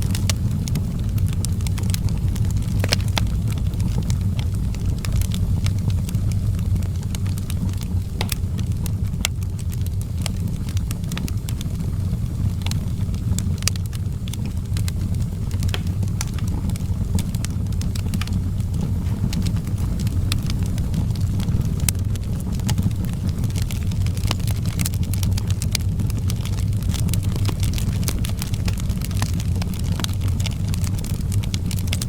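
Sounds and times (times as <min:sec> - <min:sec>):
fire crackles and pops: 0:00.0 - 0:32.0
fire rumbling: 0:00.0 - 0:32.0.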